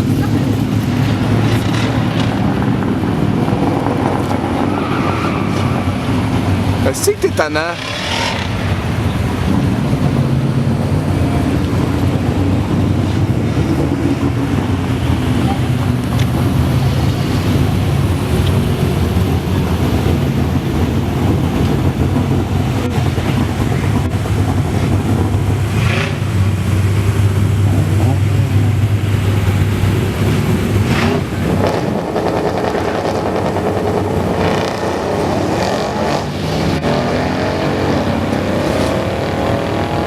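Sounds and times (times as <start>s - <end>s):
vehicle drone: 0.0s - 40.0s.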